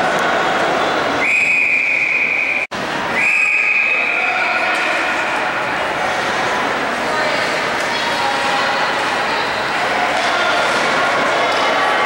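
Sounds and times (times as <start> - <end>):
crowd of spectators talking: 0.0 - 12.0
noise of play on ice: 0.0 - 12.0.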